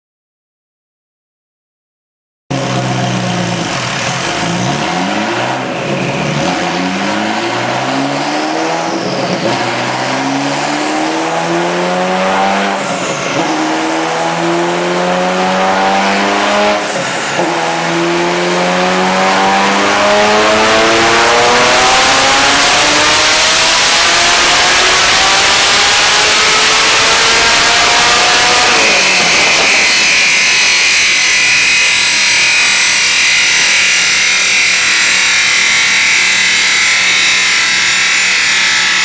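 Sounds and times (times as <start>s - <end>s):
car engine on dyno: 2.5s - 39.0s.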